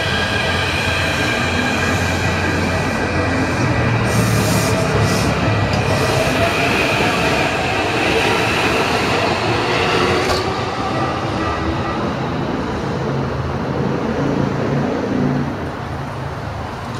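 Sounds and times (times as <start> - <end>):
electric train passing: 0.0 - 16.9.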